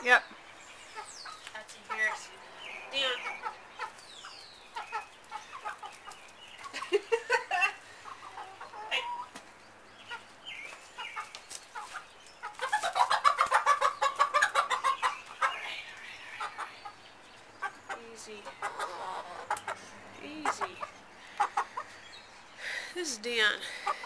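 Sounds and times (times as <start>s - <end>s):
hens clucking: 0.8s - 22.4s, 23.3s - 24.0s.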